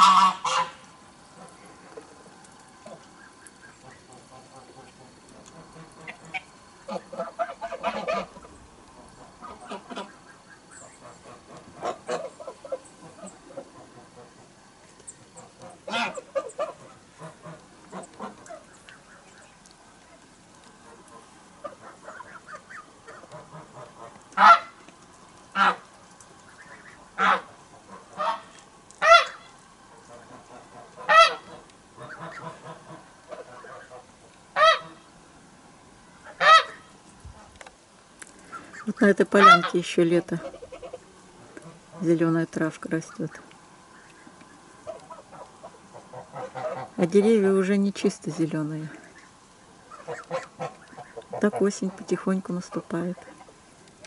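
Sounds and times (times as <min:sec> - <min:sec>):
geese honking and cackling: 0:00.0 - 0:35.2, 0:36.1 - 0:37.7, 0:38.3 - 0:42.2, 0:42.9 - 0:47.4, 0:48.9 - 0:54.0.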